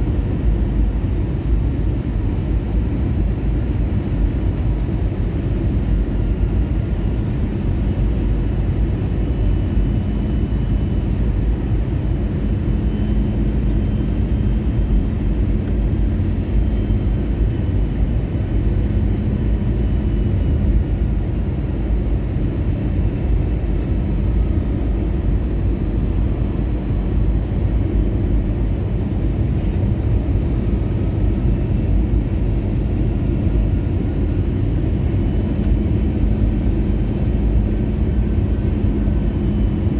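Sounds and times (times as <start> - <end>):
airplane cabin rumble: 0.0 - 39.9
faint steady hum: 0.0 - 39.9.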